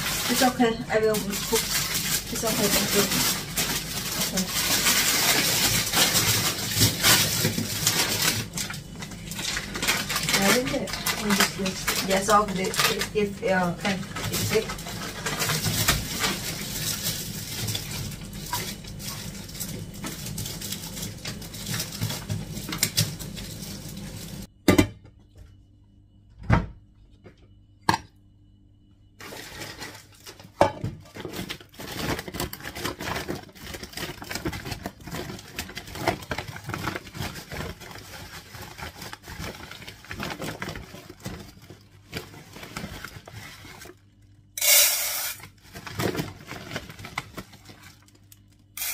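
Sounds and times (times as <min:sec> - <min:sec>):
plastic bag of rice rustling: 0:00.0 - 0:24.5, 0:29.2 - 0:48.9
plastic packaging rustling: 0:00.0 - 0:24.5, 0:29.2 - 0:48.9.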